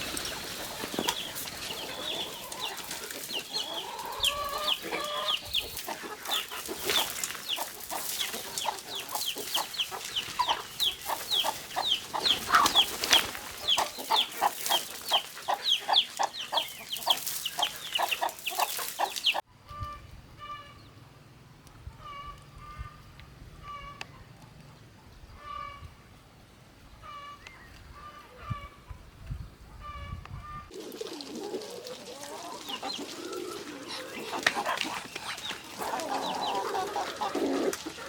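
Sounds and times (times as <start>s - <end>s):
chickens clucking and peeping: 0.0s - 20.8s, 22.0s - 23.0s, 23.6s - 25.9s, 27.0s - 38.0s.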